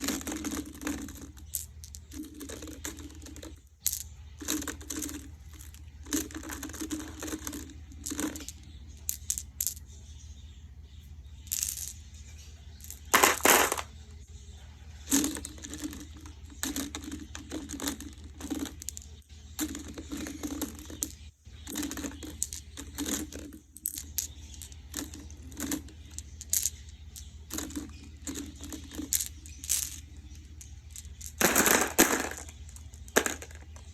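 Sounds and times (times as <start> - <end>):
marbles rolling rumble: 0.0 - 10.0, 11.4 - 12.0, 12.7 - 14.0, 15.0 - 33.9
marbles clacking: 0.0 - 10.2, 11.4 - 12.1, 12.7 - 14.0, 15.0 - 33.9.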